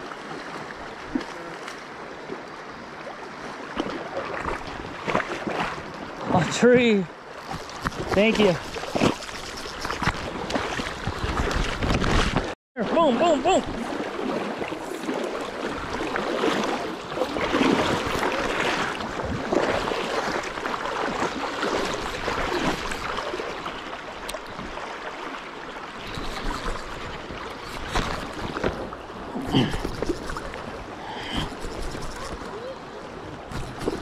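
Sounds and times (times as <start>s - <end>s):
river water rushing and splashing: 0.0s - 34.0s.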